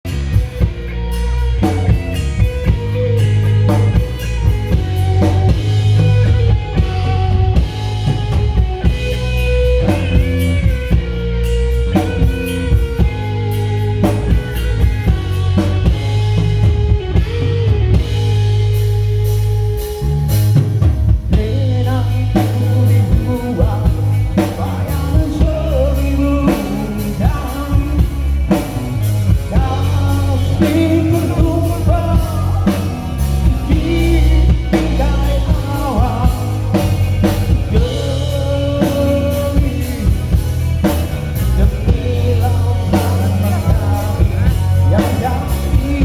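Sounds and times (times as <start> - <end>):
drum kit: 0.0 - 46.0
guitar lead with bent notes: 0.0 - 46.0
heavy bass: 0.0 - 46.0.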